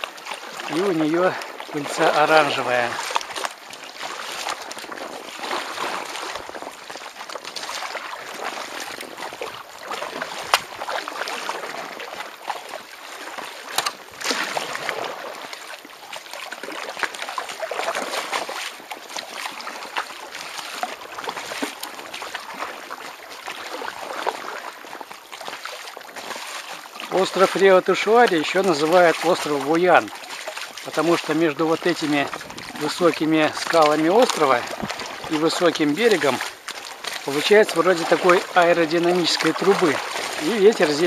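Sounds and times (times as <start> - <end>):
water splashing against rock: 0.0 - 41.0.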